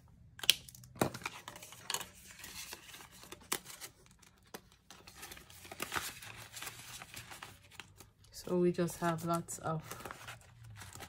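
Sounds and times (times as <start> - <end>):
plastic and paper rustling: 1.0 - 11.0.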